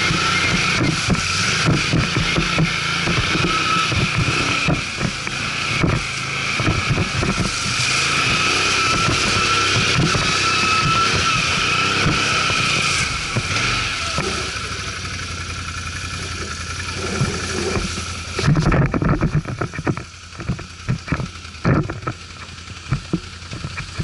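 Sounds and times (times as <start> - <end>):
high whine: 0.0 - 24.0
quad bike engine running: 0.0 - 24.0
scattered knocks: 0.4 - 13.6, 16.3 - 24.0.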